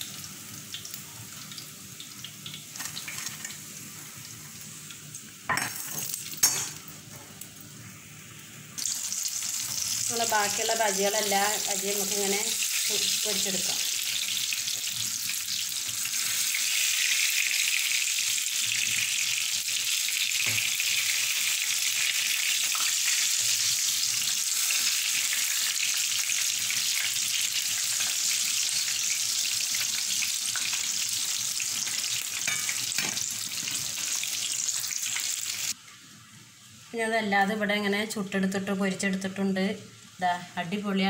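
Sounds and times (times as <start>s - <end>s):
chillies deep-frying in hot oil: 0.0s - 41.0s.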